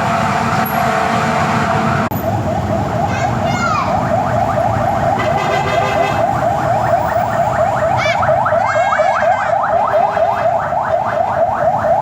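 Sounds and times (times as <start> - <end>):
fire engine siren yelping: 0.0 - 12.0
other sirens gliding: 0.0 - 12.0.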